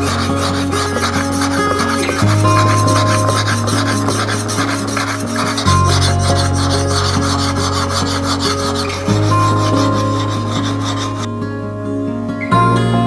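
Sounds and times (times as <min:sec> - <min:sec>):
chisel rasping on sharpening plate: 0:00.0 - 0:11.3
background music with low notes: 0:00.0 - 0:13.0.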